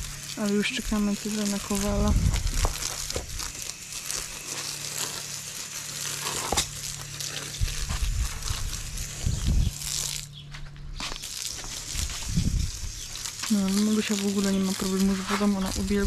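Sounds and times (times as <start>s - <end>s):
hose water spraying and splashing: 0.0s - 10.4s, 11.0s - 16.0s.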